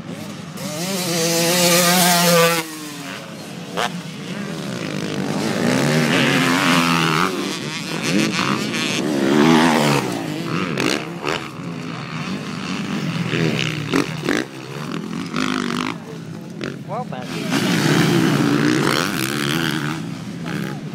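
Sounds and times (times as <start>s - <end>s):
dirt bike engines revving: 0.0s - 20.9s.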